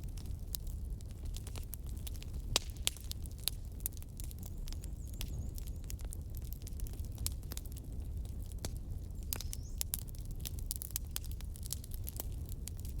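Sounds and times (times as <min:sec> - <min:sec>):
fire crackling: 0:00.0 - 0:13.0.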